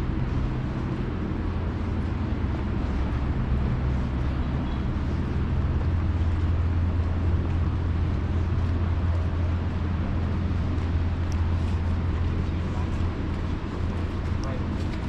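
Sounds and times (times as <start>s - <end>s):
low motor-like hum: 0.0s - 15.0s
outdoor city background noise: 0.0s - 15.0s.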